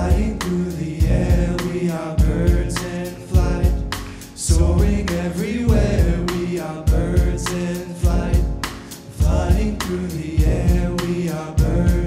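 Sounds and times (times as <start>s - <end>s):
drum kit with cymbals: 0.0s - 12.0s
grand piano: 0.0s - 12.0s
upright acoustic bass: 0.0s - 12.0s
voices singing without words: 0.0s - 12.0s.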